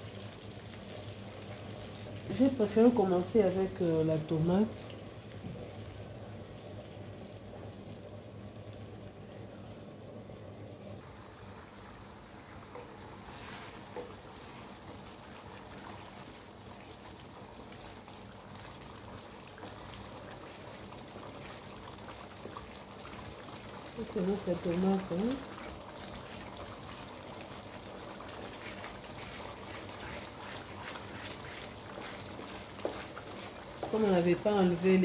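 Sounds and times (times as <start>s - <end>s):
sauce bubbling in a pan: 0.0s - 35.0s.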